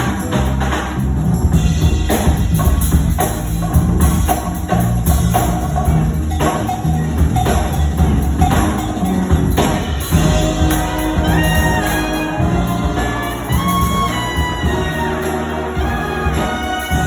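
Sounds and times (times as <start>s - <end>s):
big band jazz: 0.0s - 17.0s
drums and bass: 0.0s - 17.0s
horn lines: 0.0s - 17.0s.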